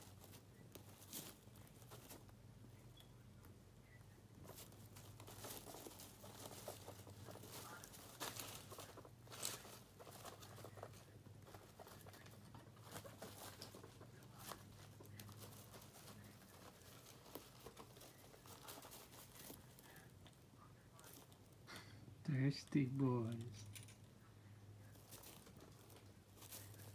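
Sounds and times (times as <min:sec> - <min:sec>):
faint low hum: 0:00.0 - 0:26.9.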